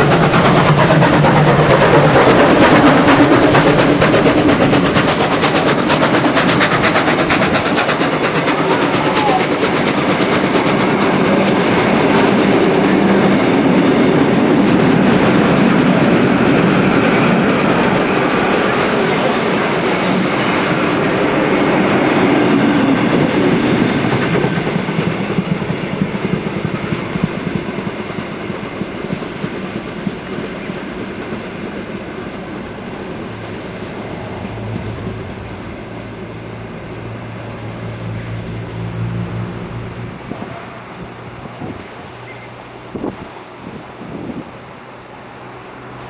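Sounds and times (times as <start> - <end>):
train wheels clattering over rail joints: 0.0 - 37.4.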